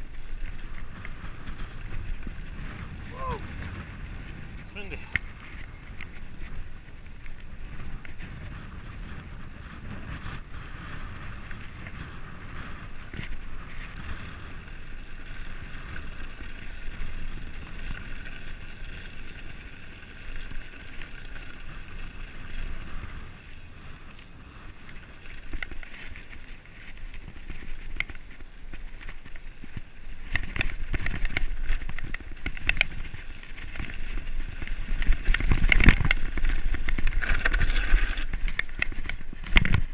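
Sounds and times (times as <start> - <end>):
bike rattling over rocks: 0.0 - 39.9
bike tyres crunching on dirt: 0.0 - 39.9.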